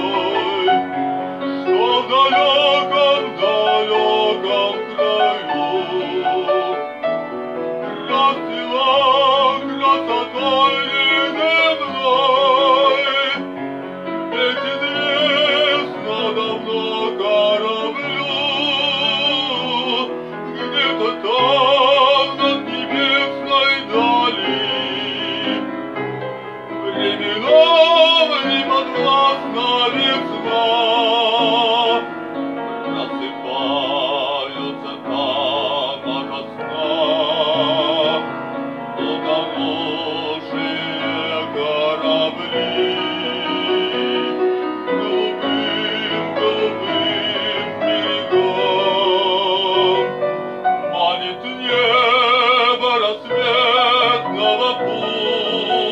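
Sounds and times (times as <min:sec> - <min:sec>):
grand piano: 0:00.0 - 0:55.9
man singing classical song: 0:00.0 - 0:55.9.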